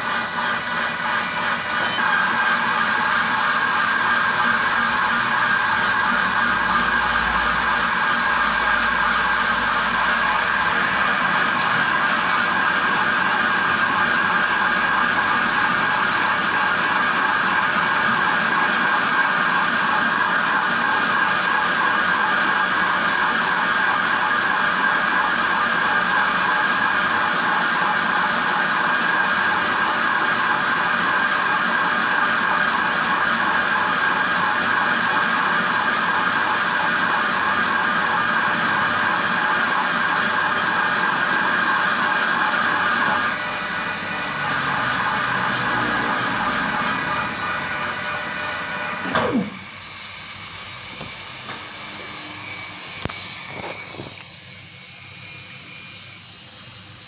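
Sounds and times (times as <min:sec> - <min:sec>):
metal lathe whining: 0:00.0 - 0:57.0.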